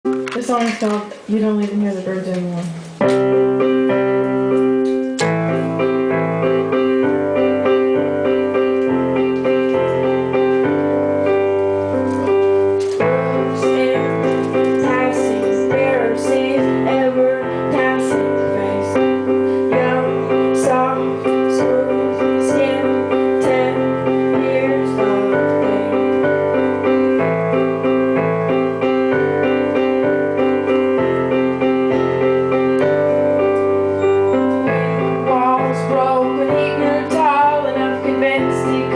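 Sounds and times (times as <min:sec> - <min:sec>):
keyboard chords: 0:02.7 - 0:38.9.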